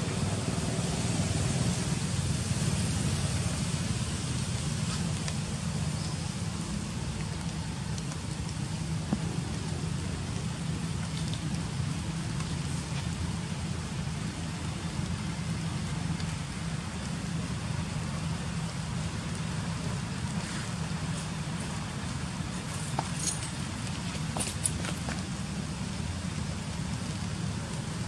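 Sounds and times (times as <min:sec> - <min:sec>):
even hiss: 0:00.0 - 0:28.0.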